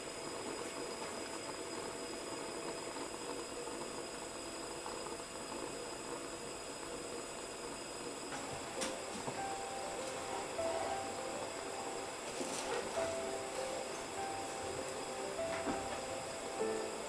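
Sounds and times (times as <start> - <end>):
background hiss: 0.0 - 17.0
faint constant hum: 0.0 - 17.0.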